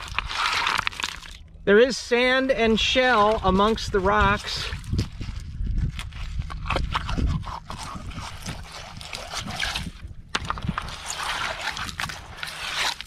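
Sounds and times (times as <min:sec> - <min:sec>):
stones clacking and scraping: 0:00.0 - 0:01.4, 0:02.5 - 0:13.0.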